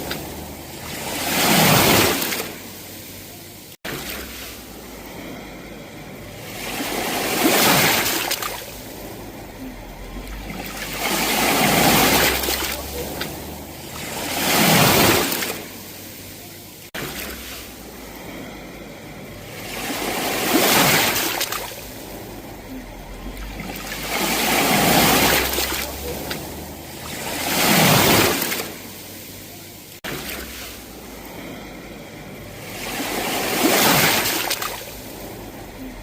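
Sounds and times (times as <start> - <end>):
sea waves washing onto shore: 0.0 - 36.0.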